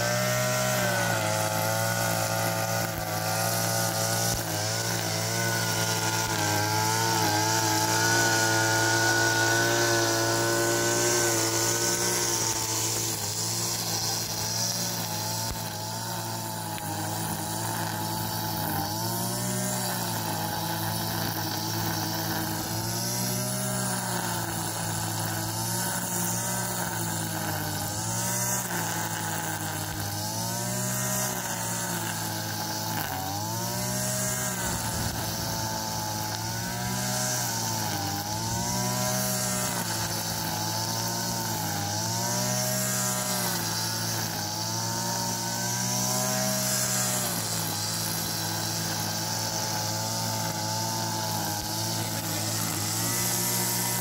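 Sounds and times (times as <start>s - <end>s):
brush cutter cutting grass: 0.0s - 54.0s.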